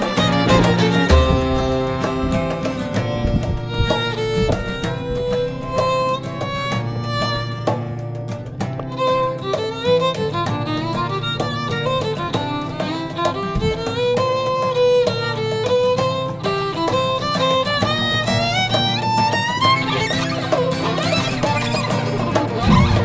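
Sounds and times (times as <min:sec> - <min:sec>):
rhythmic accompaniment: 0:00.0 - 0:23.0
violin melody: 0:00.0 - 0:23.0.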